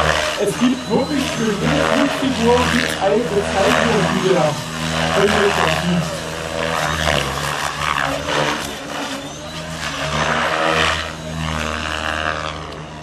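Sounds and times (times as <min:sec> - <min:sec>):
model helicopter rotors and motor: 0:00.0 - 0:13.0.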